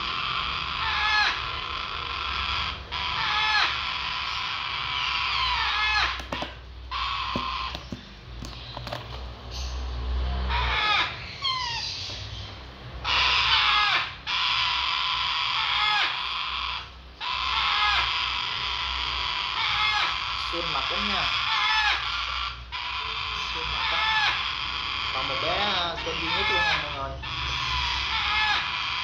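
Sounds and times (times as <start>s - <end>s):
parrot chicks rasping calls: 0.0s - 29.0s
parrot chicks squawking: 0.0s - 29.0s.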